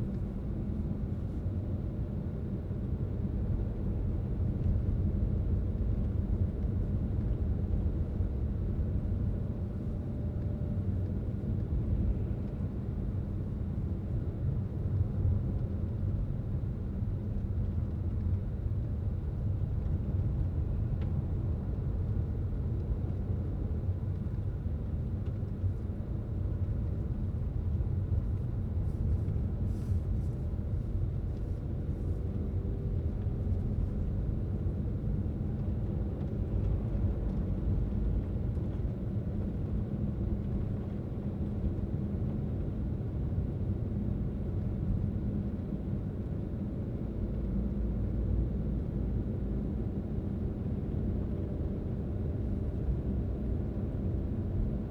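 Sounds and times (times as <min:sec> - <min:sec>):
car driving on road: 0:00.0 - 0:54.8.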